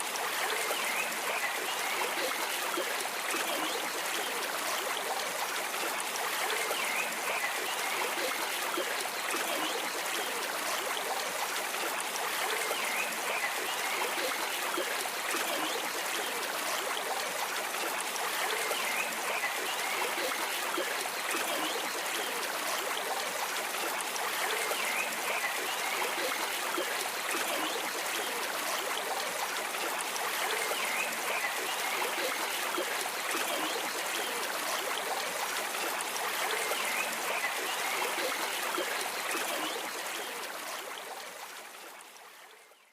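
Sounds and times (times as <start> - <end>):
stream of water trickling: 0.0 - 42.9.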